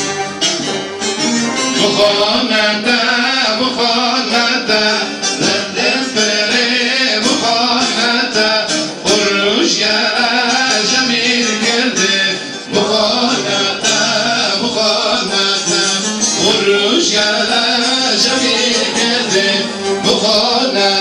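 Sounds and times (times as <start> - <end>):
strummed long-necked lute: 0.0 - 21.0
men singing folk song: 1.7 - 21.0.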